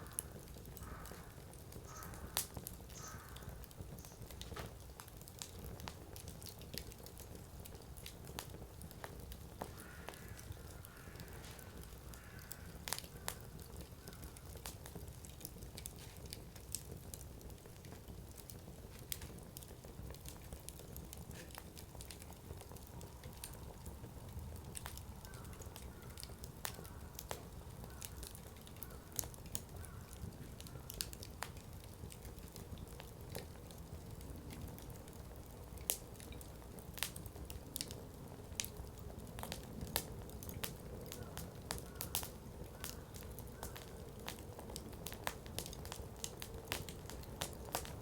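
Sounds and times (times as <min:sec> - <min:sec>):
campfire crackling and popping: 0:00.0 - 0:48.0
low steady fire rumble: 0:00.0 - 0:48.0.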